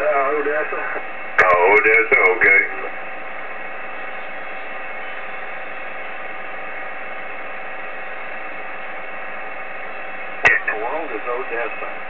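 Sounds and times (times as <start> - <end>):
faint steady tones: 0.0 - 12.0
radio static hiss: 0.0 - 12.0.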